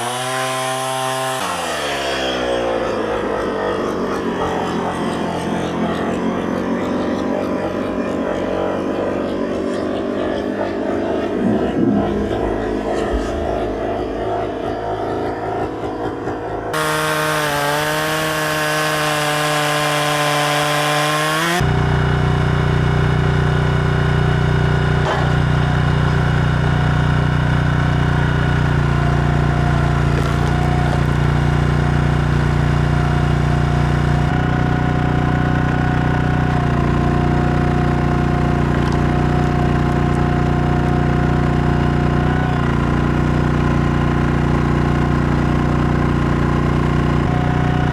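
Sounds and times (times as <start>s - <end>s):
chainsaw cutting wood: 0.0s - 7.4s, 12.9s - 47.9s.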